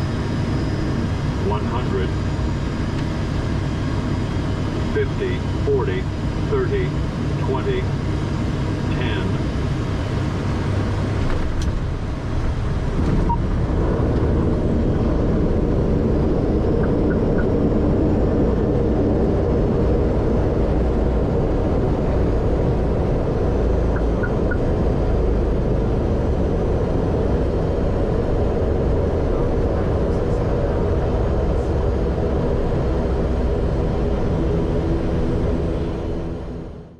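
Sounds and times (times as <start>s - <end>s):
airliner rumbling on runway: 0.0s - 36.9s.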